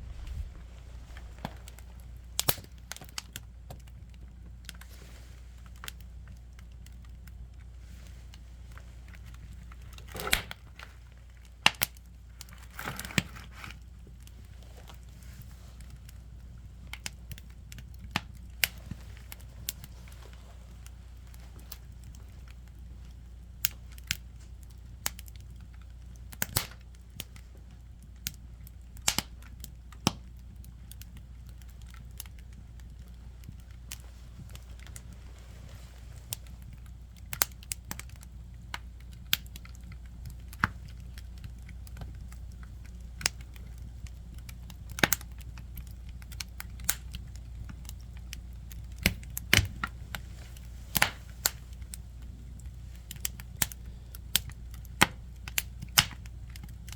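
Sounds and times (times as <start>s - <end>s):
firewood crackling and popping: 0.0s - 56.9s.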